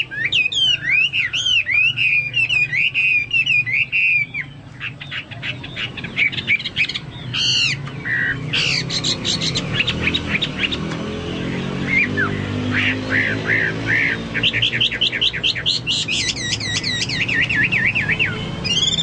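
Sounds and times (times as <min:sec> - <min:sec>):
bird singing whistles and trills: 0:00.0 - 0:19.0.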